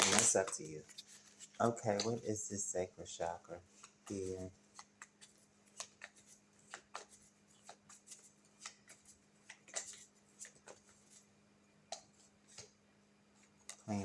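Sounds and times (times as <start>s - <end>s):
cards rustling and clicking: 0.0s - 2.4s, 3.2s - 11.3s, 11.9s - 12.7s
faint steady hum: 0.0s - 14.0s.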